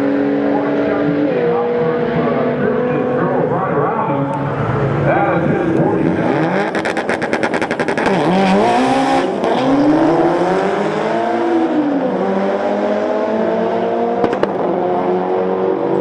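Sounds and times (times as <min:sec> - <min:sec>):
car engine revving and accelerating: 0:00.0 - 0:16.0.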